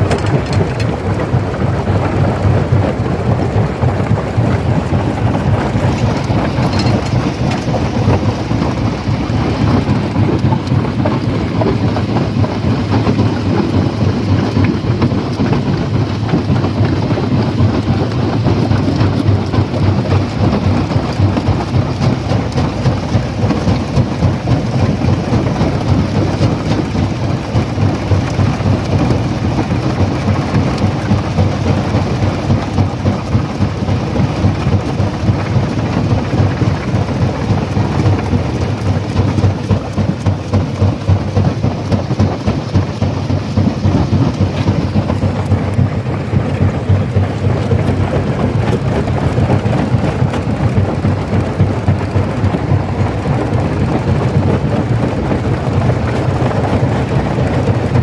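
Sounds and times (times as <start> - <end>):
rock crusher rumbling: 0.0 - 58.0
stones rattling and cracking: 0.0 - 58.0.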